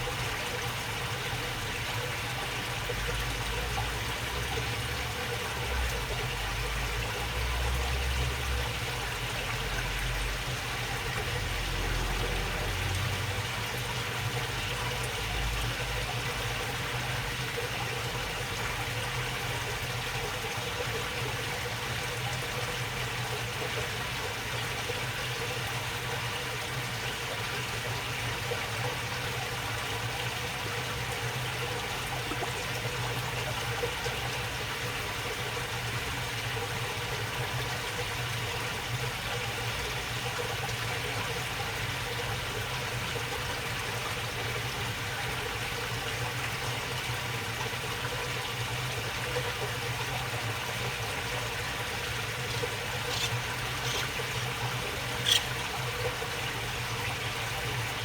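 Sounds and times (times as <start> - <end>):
water babbling along a waterway: 0.0 - 58.0.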